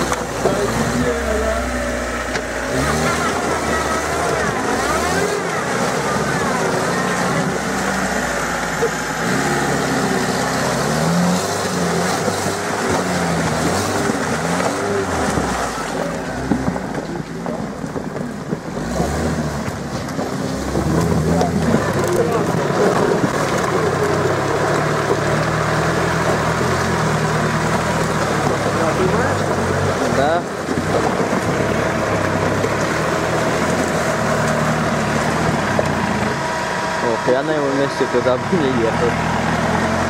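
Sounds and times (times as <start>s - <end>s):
car engine revving: 0.0s - 40.0s
wheels churning through mud: 0.0s - 40.0s.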